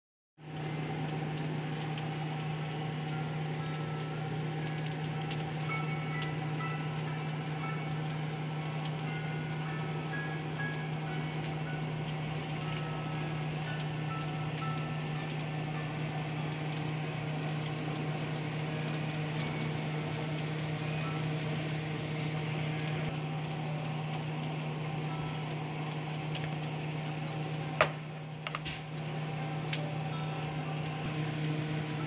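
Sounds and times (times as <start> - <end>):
low mechanical hum: 0.4 - 32.0.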